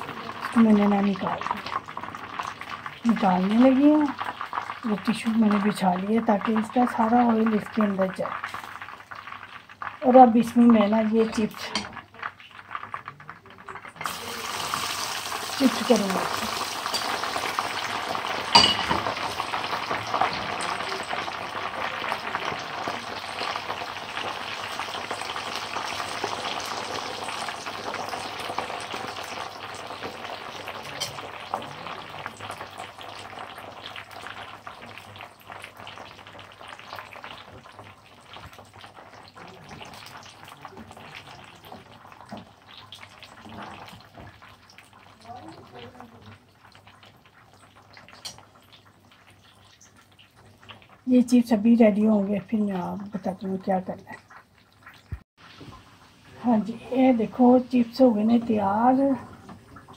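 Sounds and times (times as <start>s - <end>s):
chips sizzling in hot oil: 0.0s - 59.9s.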